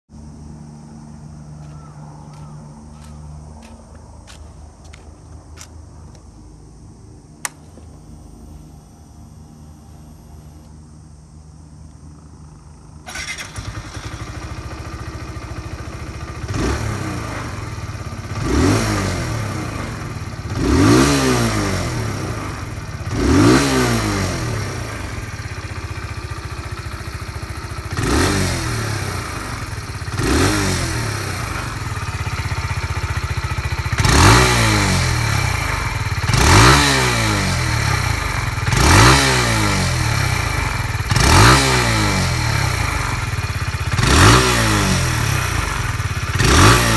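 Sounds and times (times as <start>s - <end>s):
motorcycle engine idling and revving: 0.1s - 46.9s.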